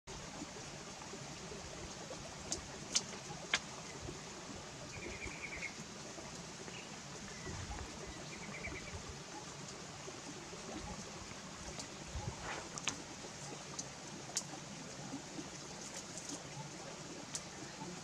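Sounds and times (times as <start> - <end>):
stream running over rocks: 0.1 - 18.0.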